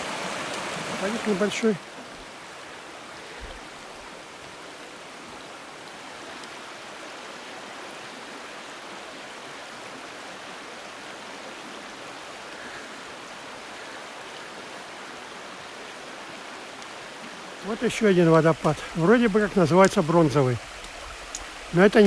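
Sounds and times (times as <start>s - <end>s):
stream rushing down a cascade: 0.0s - 22.0s.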